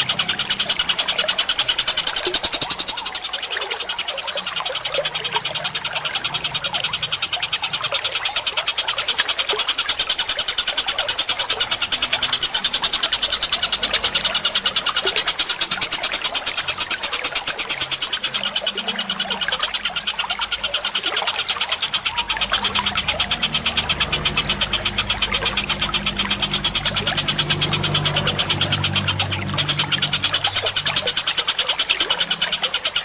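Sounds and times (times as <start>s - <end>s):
birds chattering: 0.0s - 33.0s.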